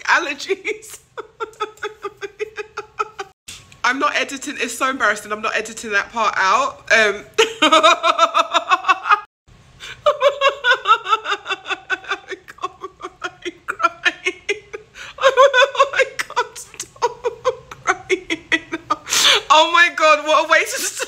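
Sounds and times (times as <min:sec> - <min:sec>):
woman laughing: 0:00.2 - 0:03.4, 0:07.0 - 0:21.0.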